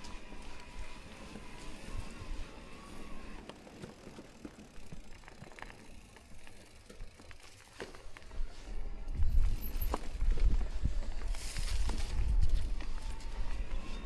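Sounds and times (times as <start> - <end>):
bike clicks and rattles: 0.0 - 14.0
tyres rumbling on trail: 0.0 - 14.0
wind: 0.0 - 14.0.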